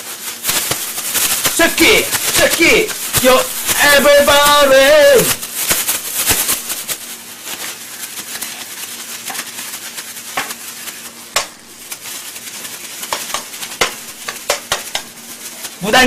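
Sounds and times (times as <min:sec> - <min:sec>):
food sizzling in a pan: 0:00.0 - 0:15.9.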